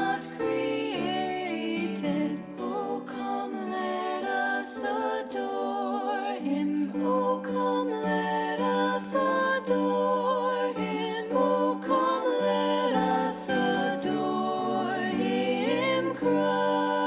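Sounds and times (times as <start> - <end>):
wavering sung melody: 0.0 - 17.0.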